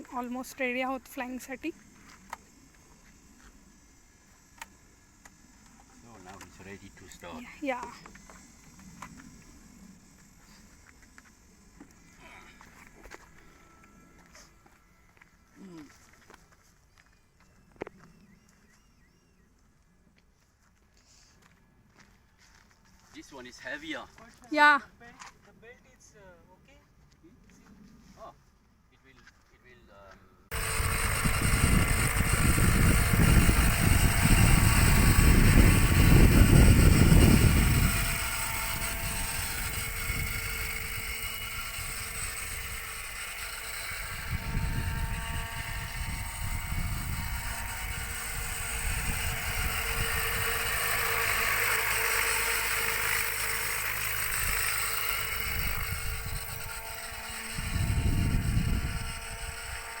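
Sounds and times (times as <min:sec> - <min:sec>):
model helicopter motor whine: 0:00.0 - 0:18.7, 0:30.5 - 1:00.0.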